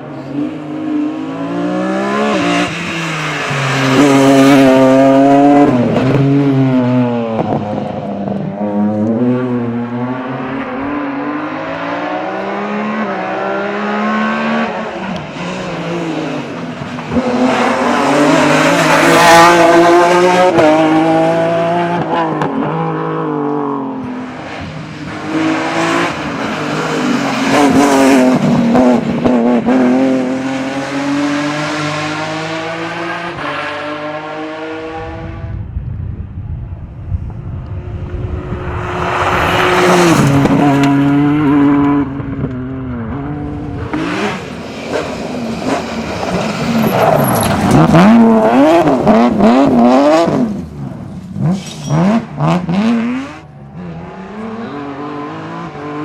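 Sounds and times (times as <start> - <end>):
rally car engine revving: 0.0 - 35.6, 37.2 - 56.0.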